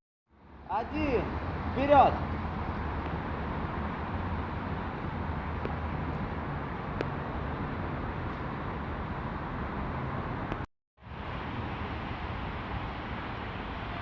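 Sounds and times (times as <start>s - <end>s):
outdoor rumble and hiss: 0.3s - 14.0s.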